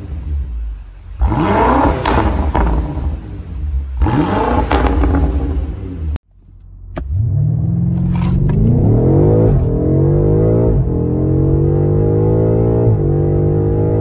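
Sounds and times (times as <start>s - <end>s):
car engine accelerating hard: 0.0s - 6.2s, 6.9s - 14.0s.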